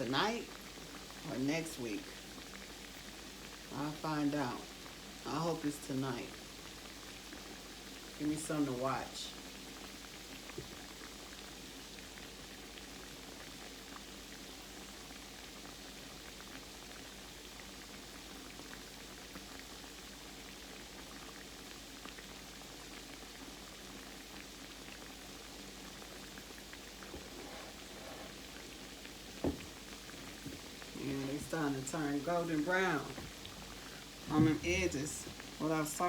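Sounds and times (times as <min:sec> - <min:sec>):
food frying in grease: 0:00.0 - 0:36.0.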